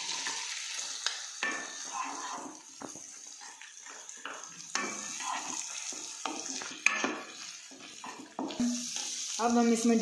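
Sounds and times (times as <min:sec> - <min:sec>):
wooden spatula scraping wok: 0:00.0 - 0:09.4
onions sizzling in butter: 0:00.0 - 0:10.0.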